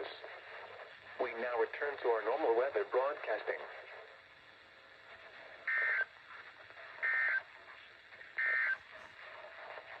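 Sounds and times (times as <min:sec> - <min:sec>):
faint radio hiss: 0:00.0 - 0:10.0.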